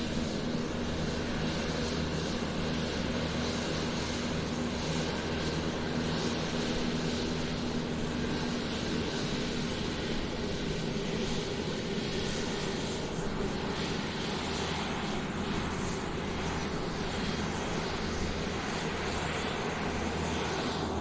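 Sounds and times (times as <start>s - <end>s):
airplane engine taxiing: 0.0s - 21.0s.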